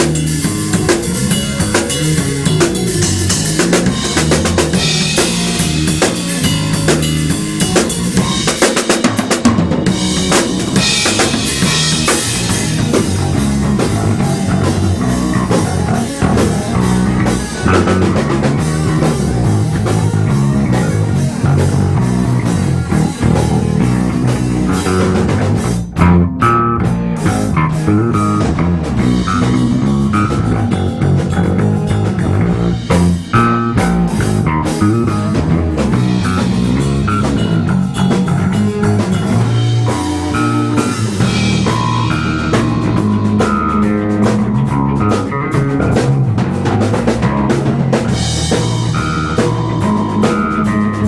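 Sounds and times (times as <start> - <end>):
bass line: 0.0 - 51.0
drum kit: 0.0 - 51.0
rock band playing: 0.0 - 51.0.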